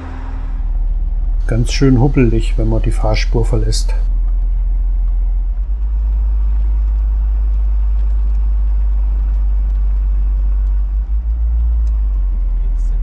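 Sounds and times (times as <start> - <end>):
truck engine drone from cab: 0.0 - 13.0.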